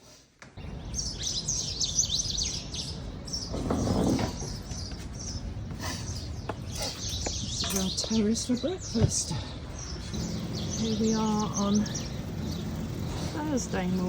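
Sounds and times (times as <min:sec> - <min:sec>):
outdoor background noise: 0:00.0 - 0:14.0
small birds chirping: 0:00.0 - 0:14.0.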